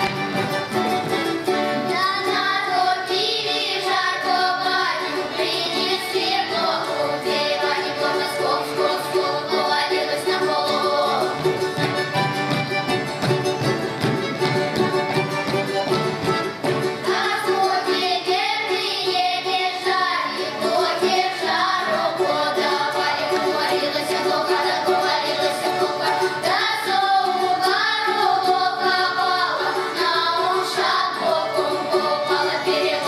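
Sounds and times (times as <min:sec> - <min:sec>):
children singing folk song: 0:00.0 - 0:33.0.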